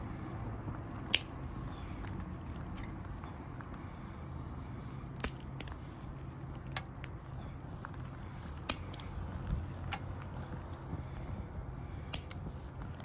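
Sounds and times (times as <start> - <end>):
small fire crackling: 0.0 - 13.0.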